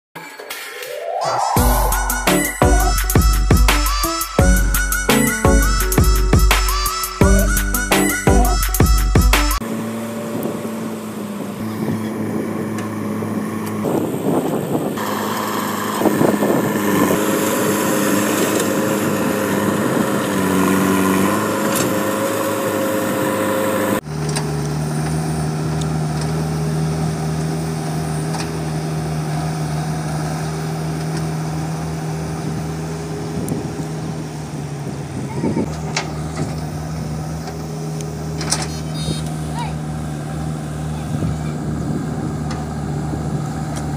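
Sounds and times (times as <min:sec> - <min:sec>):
backhoe loader diesel engine: 0:01.6 - 0:43.9
diesel truck engine: 0:01.6 - 0:43.9.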